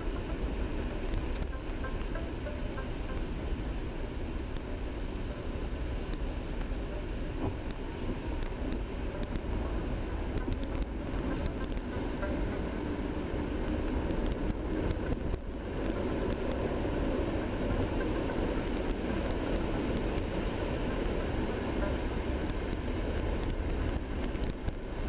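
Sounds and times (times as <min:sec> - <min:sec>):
faint clicks: 0:00.0 - 0:03.8, 0:06.0 - 0:25.0
car engine and tyre noise: 0:00.0 - 0:25.0.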